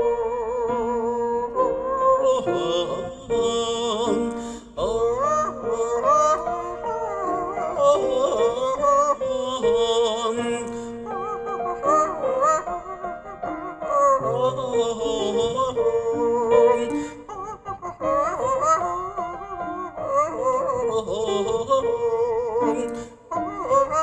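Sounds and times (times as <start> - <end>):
wordless high-pitched singing: 0.0 - 24.0.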